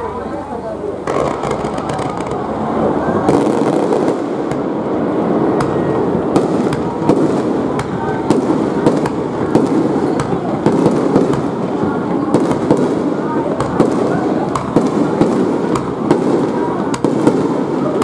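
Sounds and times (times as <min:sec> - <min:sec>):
murmur of voices: 0:00.0 - 0:18.0
firework shells bursting: 0:01.0 - 0:02.5, 0:03.3 - 0:18.0.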